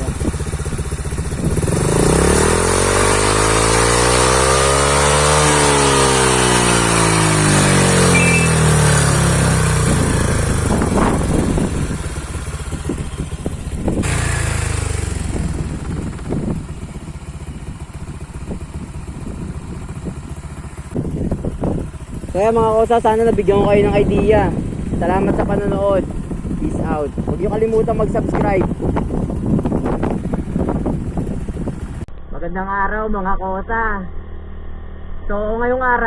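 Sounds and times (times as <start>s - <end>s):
scooter engine revving: 0.0s - 32.1s.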